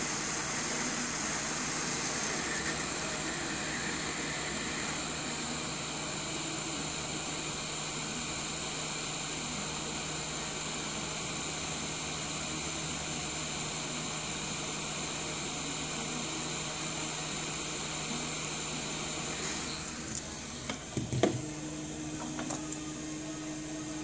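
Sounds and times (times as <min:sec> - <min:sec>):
hot air gun hissing: 0:00.0 - 0:21.0.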